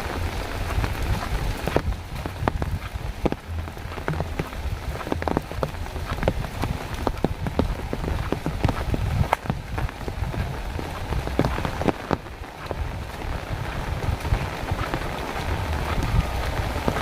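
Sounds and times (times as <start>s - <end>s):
rain falling: 0.0s - 17.0s
sharp raindrops striking: 0.0s - 17.0s.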